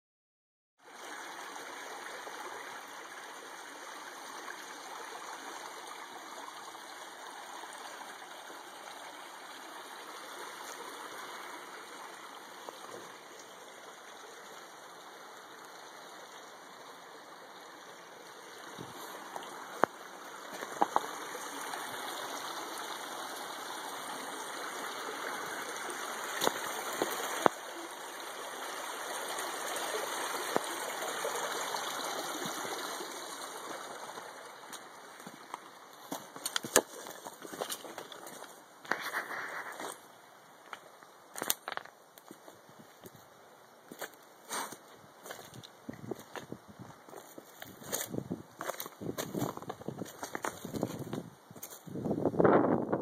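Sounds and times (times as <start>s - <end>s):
creek water trickling over rocks: 0.8s - 53.0s.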